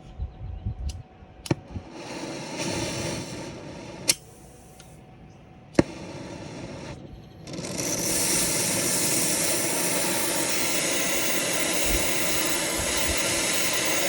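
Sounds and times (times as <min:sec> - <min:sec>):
brazing torch hissing: 0:01.5 - 0:05.0, 0:05.8 - 0:14.0.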